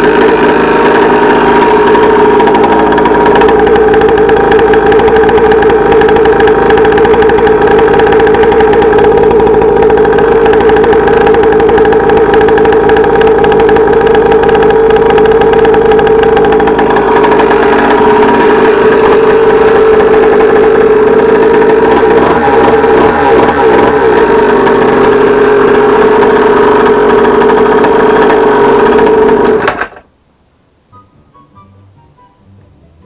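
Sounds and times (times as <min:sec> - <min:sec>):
two-stroke dirt bike engine: 0:00.0 - 0:30.1.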